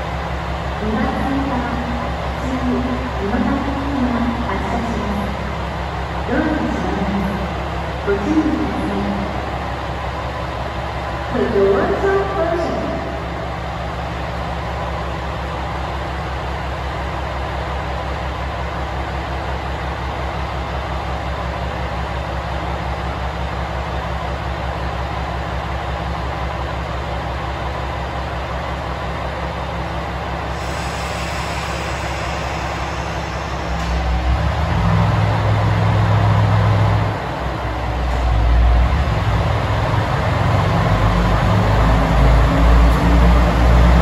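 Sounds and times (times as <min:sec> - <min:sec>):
diesel railcar engines idling: 0:00.0 - 0:44.0.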